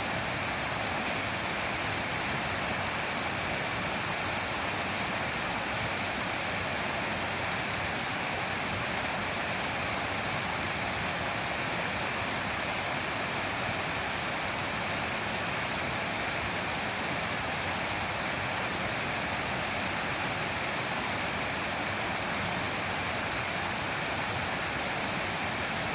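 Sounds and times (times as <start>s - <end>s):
water rushing over rocks: 0.0s - 25.9s.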